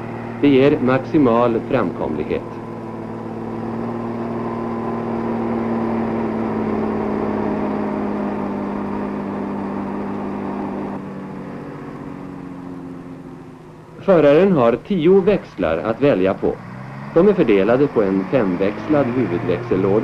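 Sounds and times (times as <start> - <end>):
truck diesel engine under load: 0.0 - 20.0.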